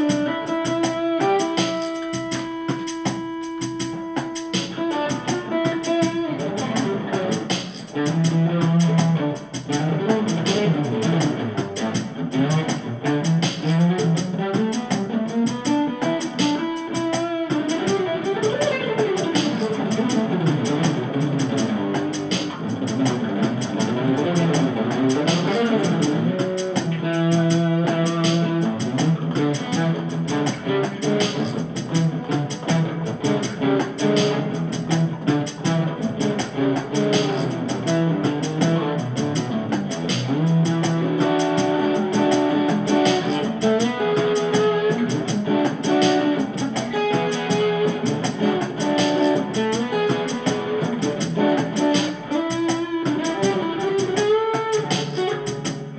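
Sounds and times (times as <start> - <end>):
guitar-led music: 0.0 - 55.9.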